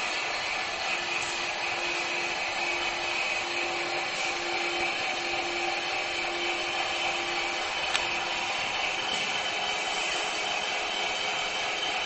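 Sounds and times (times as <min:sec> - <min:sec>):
liquid nitrogen hissing through hose: 0:00.0 - 0:12.0
nitrogen boiling off and venting: 0:00.0 - 0:12.0.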